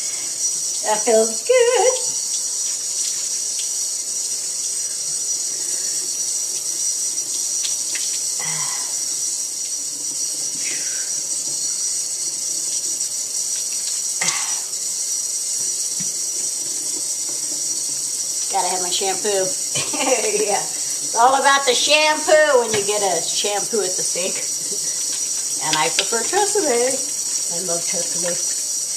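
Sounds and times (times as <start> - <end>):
water running from faucet: 0.0 - 28.9.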